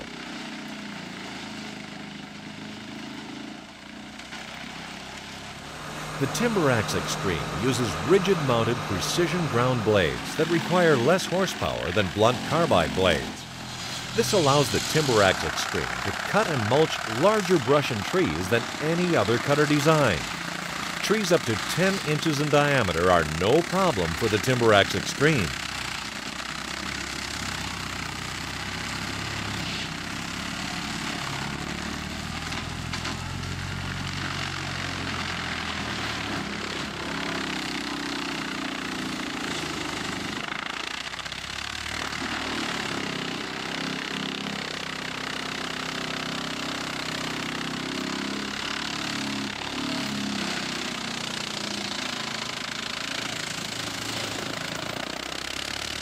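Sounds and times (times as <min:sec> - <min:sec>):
mulcher grinding wood: 0:00.0 - 0:56.0
tractor engine under load: 0:00.1 - 0:56.0.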